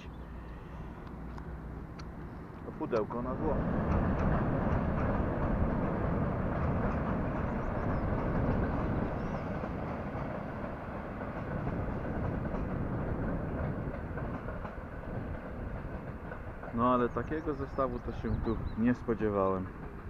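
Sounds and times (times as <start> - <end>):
train wheels on rails: 1.2 - 20.0.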